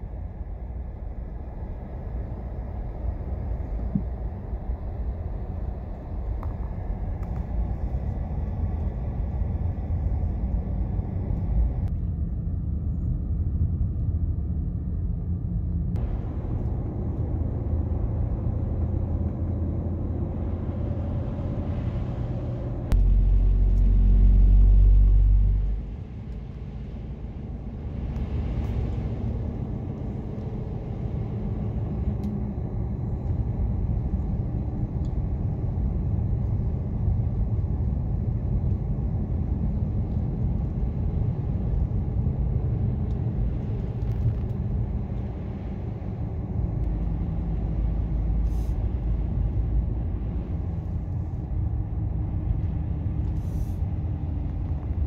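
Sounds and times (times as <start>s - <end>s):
car road noise rumble: 0.0s - 55.0s.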